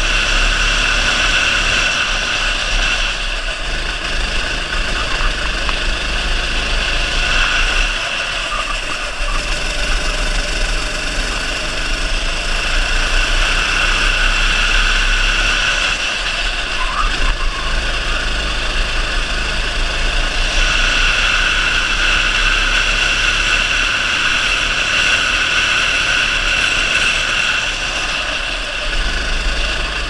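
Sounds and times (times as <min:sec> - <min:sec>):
go-kart engine running hard: 0:00.0 - 0:30.0.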